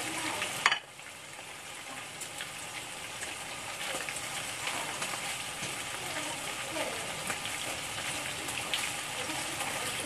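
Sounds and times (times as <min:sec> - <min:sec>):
shrimp sizzling in oil: 0:00.0 - 0:10.0.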